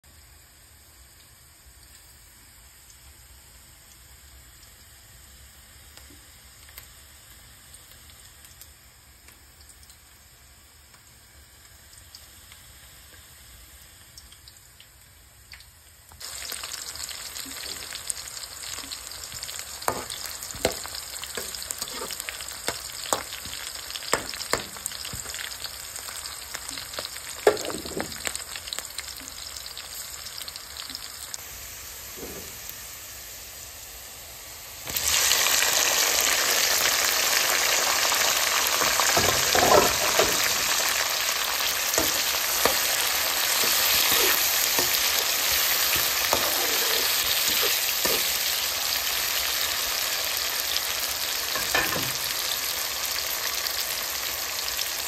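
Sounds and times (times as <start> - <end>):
onions sizzling in oil: 0.0 - 55.0.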